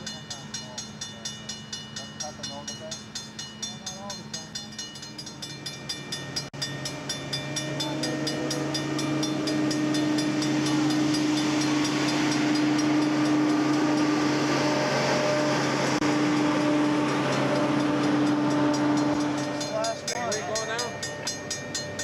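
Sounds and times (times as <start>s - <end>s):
diesel drone of rail machines: 0.0s - 22.0s
rail noise: 0.0s - 22.0s
railroad crossing bell ringing: 0.0s - 22.0s.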